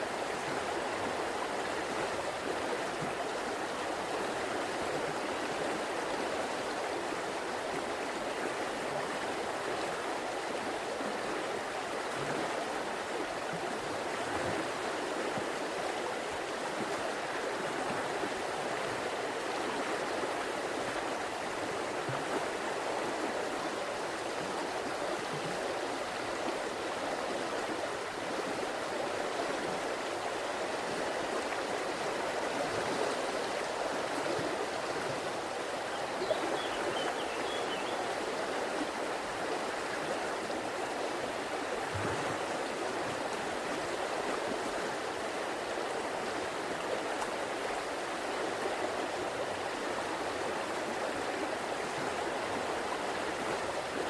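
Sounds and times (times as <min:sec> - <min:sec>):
river water running over rocks: 0:00.0 - 0:54.0.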